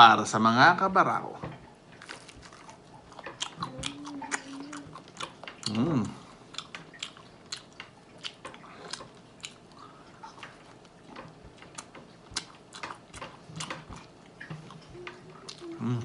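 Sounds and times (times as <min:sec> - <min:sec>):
close chewing with mouth clicks: 0:02.0 - 0:16.0.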